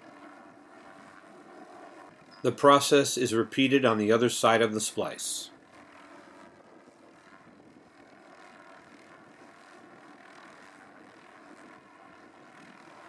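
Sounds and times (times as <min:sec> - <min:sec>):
faint helicopter engine and rotor: 0:00.0 - 0:13.0.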